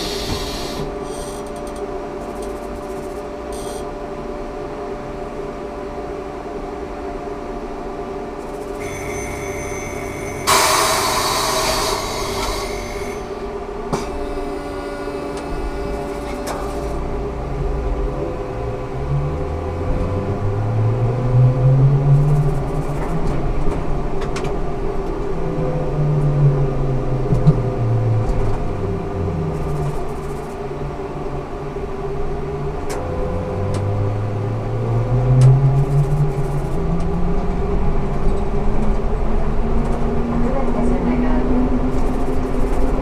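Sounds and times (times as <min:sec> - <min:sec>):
bus running drone: 0:00.0 - 0:43.0
trolleybus electric drive whining: 0:00.0 - 0:43.0.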